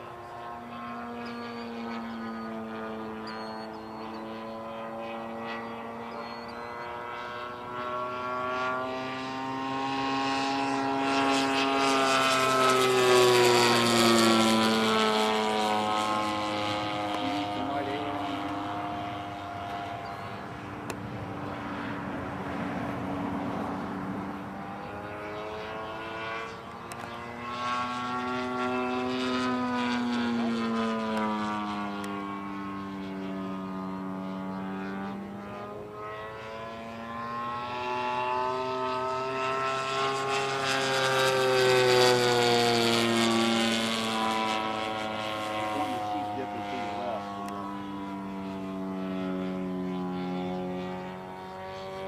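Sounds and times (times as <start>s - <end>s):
plane engine buzzing overhead: 0.0s - 52.0s.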